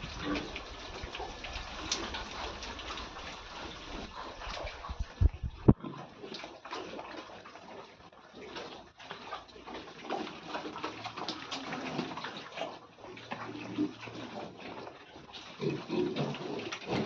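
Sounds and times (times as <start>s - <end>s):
pigs slurping and splashing: 0.0s - 17.0s.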